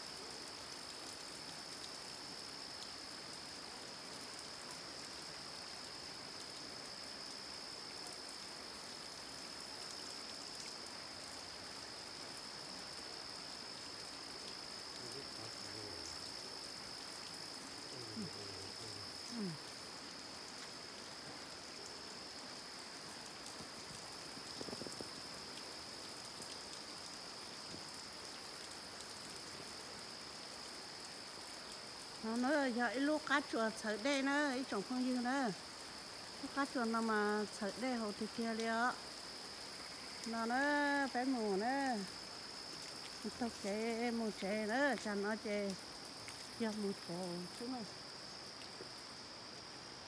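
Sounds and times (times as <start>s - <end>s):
water trickling and dripping: 0.0s - 50.0s.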